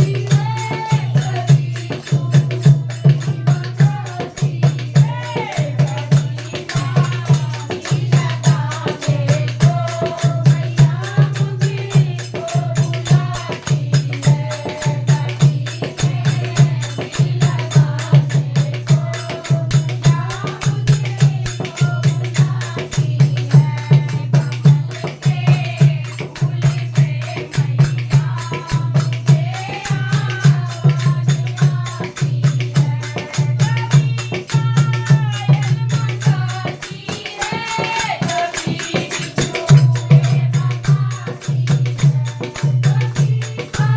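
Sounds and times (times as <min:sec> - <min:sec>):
fast drum beat: 0:00.0 - 0:43.9
rattling hand percussion: 0:00.0 - 0:43.9.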